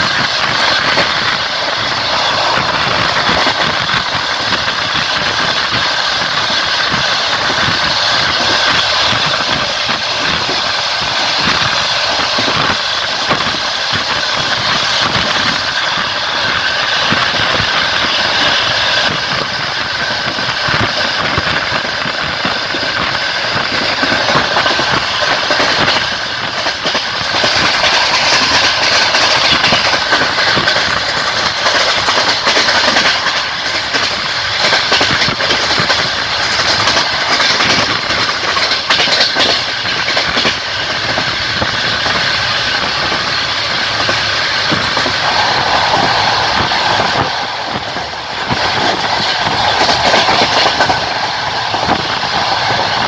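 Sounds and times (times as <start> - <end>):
train rolling and rushing: 0.0 - 53.0
wheels clattering over rail joints: 0.0 - 53.0.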